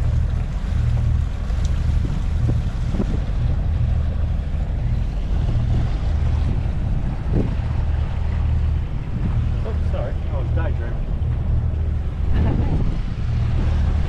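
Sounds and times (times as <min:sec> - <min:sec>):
diesel engine running steadily: 0:00.0 - 0:14.0
water rushing past hull: 0:00.0 - 0:14.0
wind on microphone: 0:00.0 - 0:14.0.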